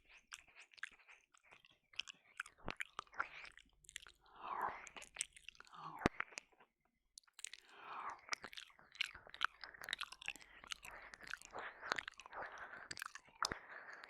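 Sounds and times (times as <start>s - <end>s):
wet mouth licking and smacking: 0.0s - 14.0s.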